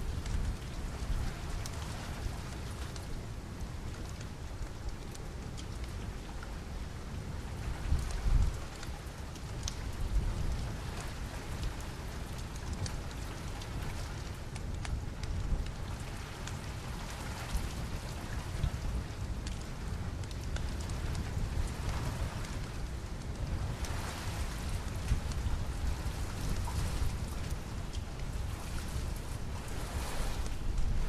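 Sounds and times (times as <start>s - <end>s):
steady rain falling: 0.0s - 31.0s
wood fire crackling: 0.0s - 31.0s.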